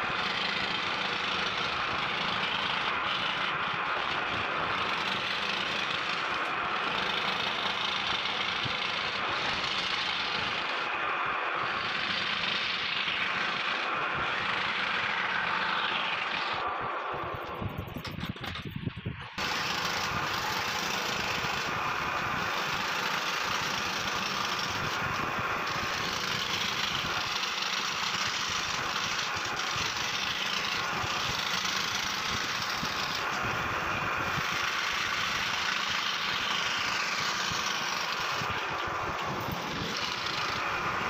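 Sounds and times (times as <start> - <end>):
scroll saw cutting wood: 0.0 - 41.0.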